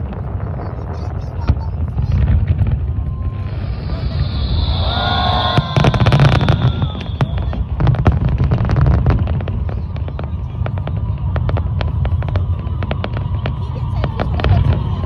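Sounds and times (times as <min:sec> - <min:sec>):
fireworks cracking and popping: 0:00.0 - 0:15.0
rumble of bursting shells: 0:00.0 - 0:15.0.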